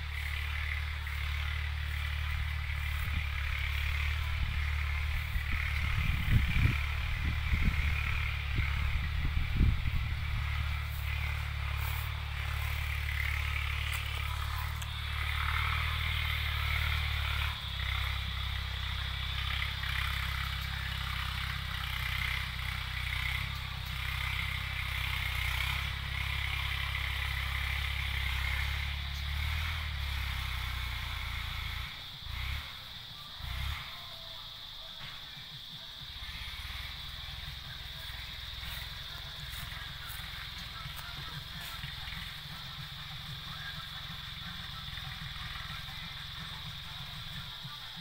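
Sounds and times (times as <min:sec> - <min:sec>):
steady high hiss: 0:00.0 - 0:48.0
tractor engine running: 0:00.0 - 0:48.0.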